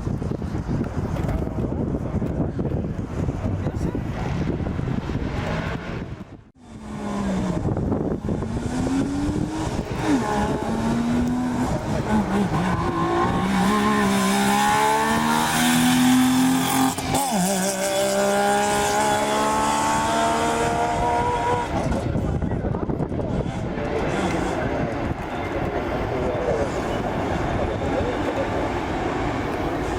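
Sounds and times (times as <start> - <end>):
rally car engine accelerating: 4.2 - 29.9.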